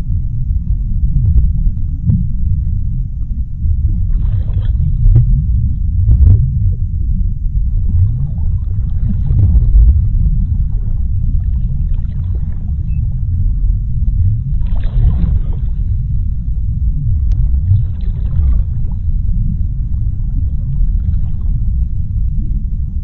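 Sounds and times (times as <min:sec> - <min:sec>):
deep underwater rumble: 0:00.0 - 0:23.0.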